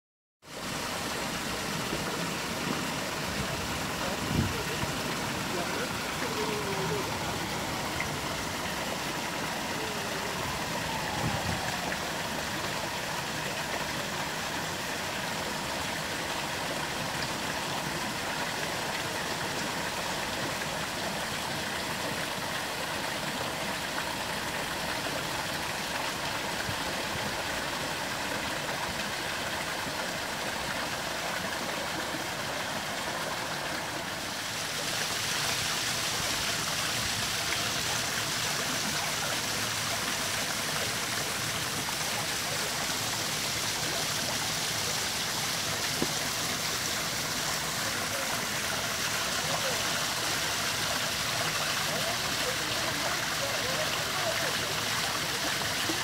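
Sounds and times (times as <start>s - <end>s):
waterfall splashing into pond: 0.4s - 56.0s.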